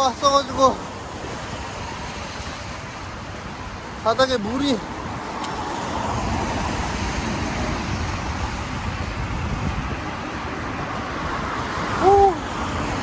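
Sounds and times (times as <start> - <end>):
bicycle tyres hissing through water: 0.0 - 13.0
wind on microphone: 0.0 - 13.0.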